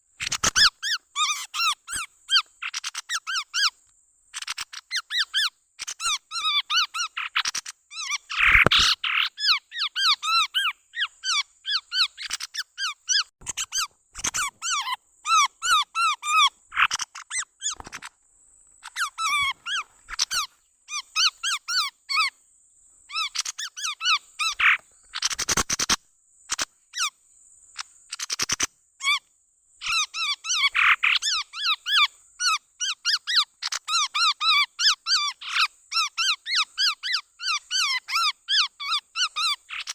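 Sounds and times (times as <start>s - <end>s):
birds chattering squeaky calls: 0.2s - 18.2s, 18.8s - 22.4s, 23.1s - 27.2s, 27.8s - 39.9s.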